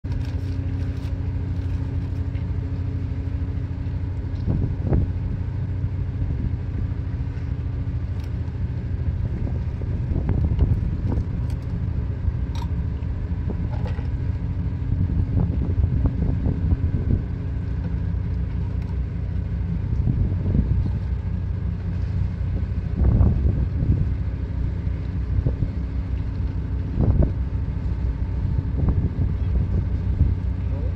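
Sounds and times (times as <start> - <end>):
ship engine humming: 0.0 - 30.9.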